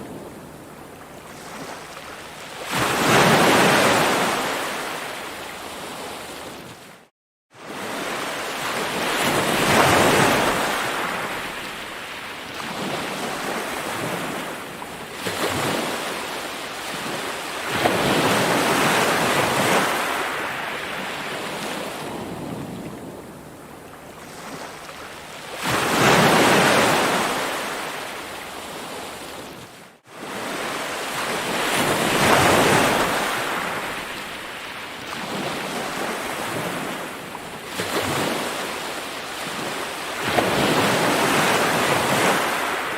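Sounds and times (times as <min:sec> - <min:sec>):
ocean waves breaking on shore: 0:00.0 - 0:42.9.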